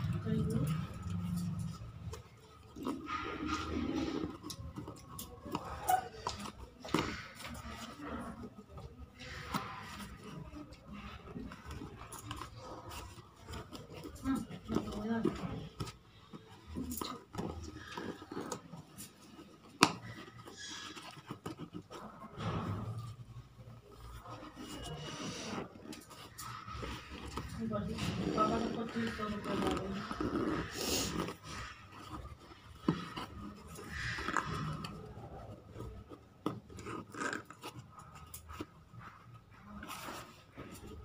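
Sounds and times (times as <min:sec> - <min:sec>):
cardboard scraping and rustling: 0:00.0 - 0:41.0.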